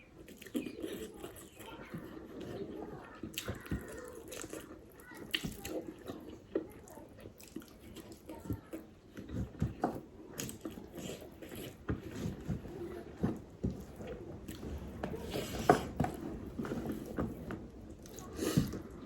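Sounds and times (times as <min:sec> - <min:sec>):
wet chewing: 0:00.0 - 0:19.0.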